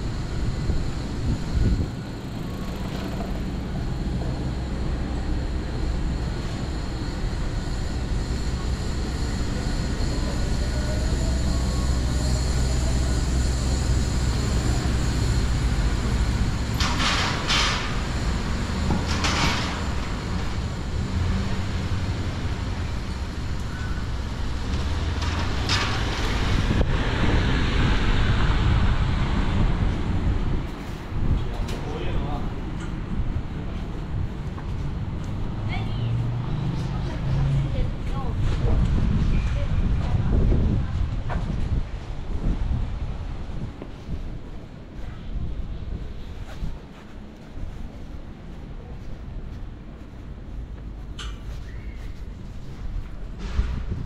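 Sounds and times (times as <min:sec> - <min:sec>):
motor vehicles rumbling: 0:00.0 - 0:54.0.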